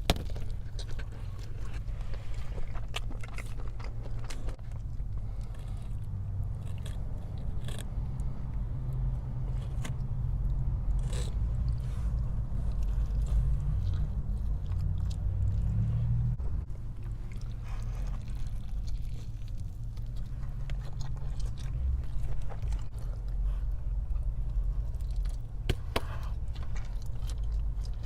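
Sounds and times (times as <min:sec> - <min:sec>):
low hum: 0:00.0 - 0:28.0
person chewing food: 0:00.0 - 0:28.0.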